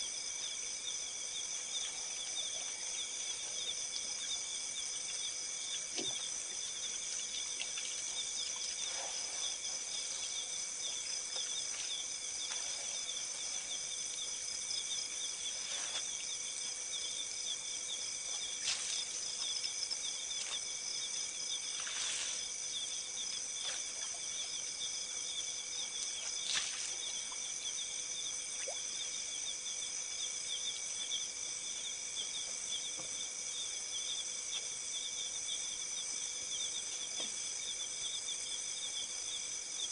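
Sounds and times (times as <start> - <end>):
crickets and insects trilling: 0.0 - 39.9.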